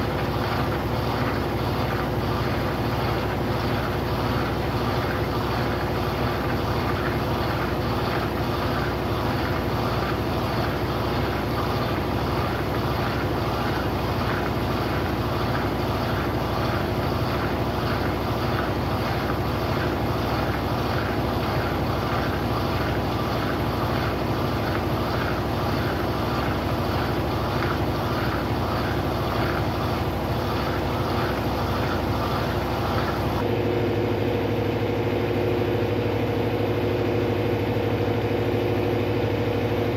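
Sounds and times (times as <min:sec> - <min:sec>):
steady hum: 0:00.0 - 0:39.9
washing machine motor whirring: 0:00.0 - 0:39.9.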